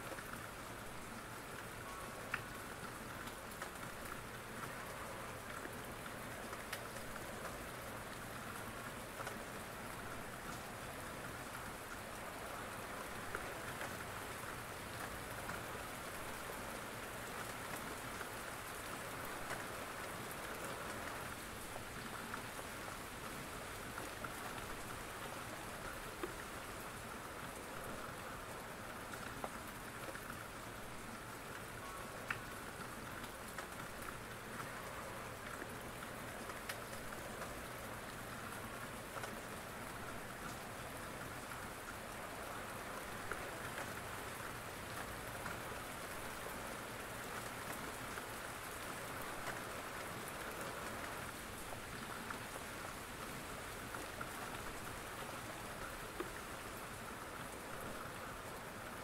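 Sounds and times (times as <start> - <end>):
sharp raindrop ticks: 0.0 - 59.0
steady rain: 0.0 - 59.0.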